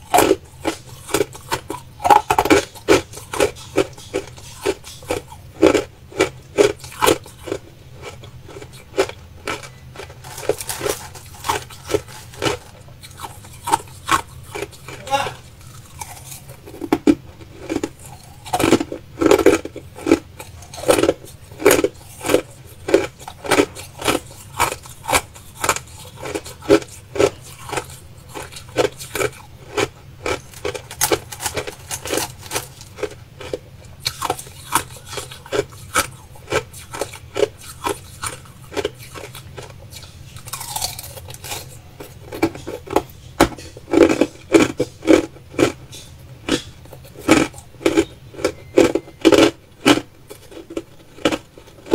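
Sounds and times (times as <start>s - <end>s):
crushed ice being chewed: 0.0s - 51.9s.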